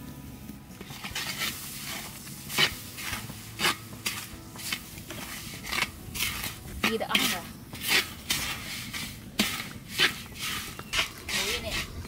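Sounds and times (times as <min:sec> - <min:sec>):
metal spatula scraping a pan: 0:00.8 - 0:12.0.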